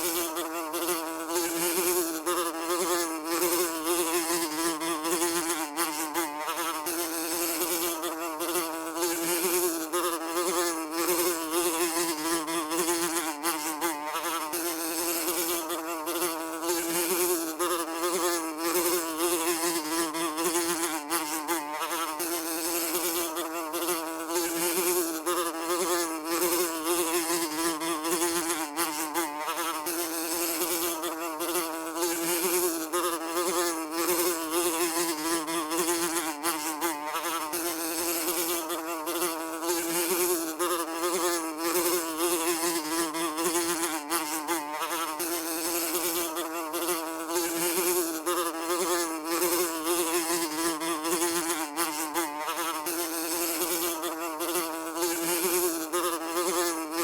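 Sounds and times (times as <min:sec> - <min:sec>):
fly buzzing: 0:00.0 - 0:57.0.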